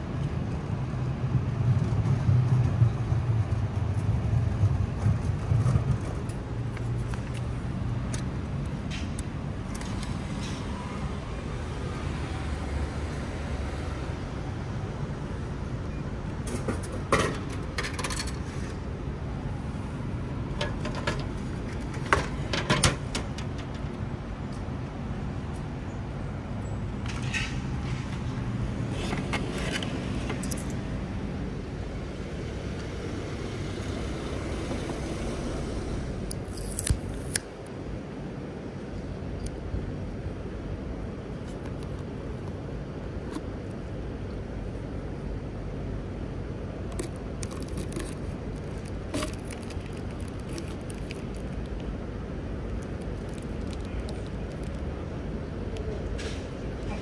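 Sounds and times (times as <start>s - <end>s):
street traffic: 0.0s - 57.0s
vehicle rumble: 0.0s - 57.0s.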